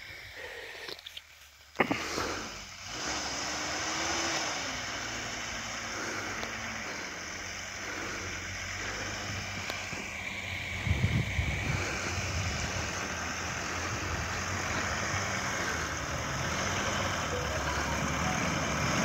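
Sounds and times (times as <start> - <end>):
distant engine working hard: 1.8 - 19.0.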